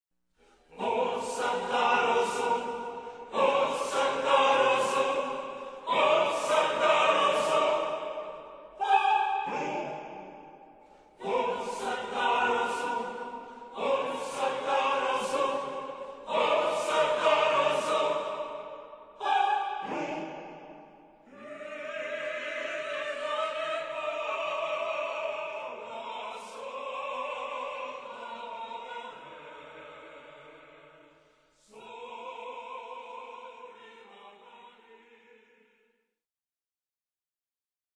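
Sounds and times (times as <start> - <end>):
music with choir-like singing: 0.4 - 35.8.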